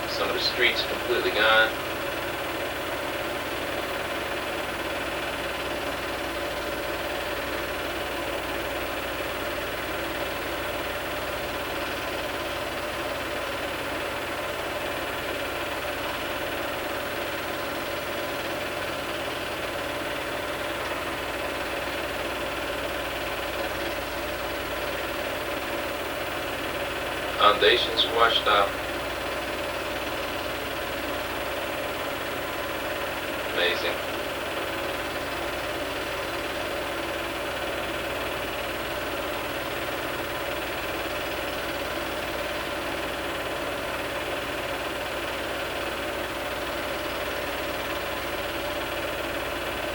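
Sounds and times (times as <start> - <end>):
film projector humming: 0.0 - 49.9.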